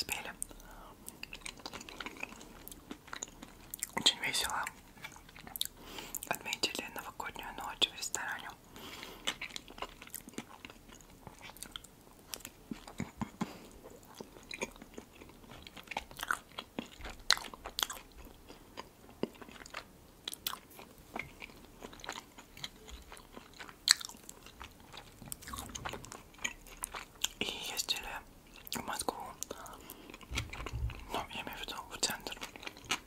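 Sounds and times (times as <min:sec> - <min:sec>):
person chewing bread: 0:00.0 - 0:33.0.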